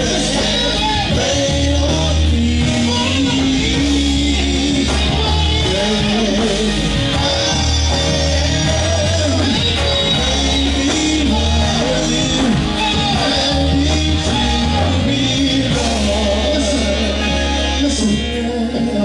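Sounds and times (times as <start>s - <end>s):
band backing: 0.0s - 19.0s
bass line: 0.0s - 19.0s
wavering melodic lead: 0.0s - 19.0s.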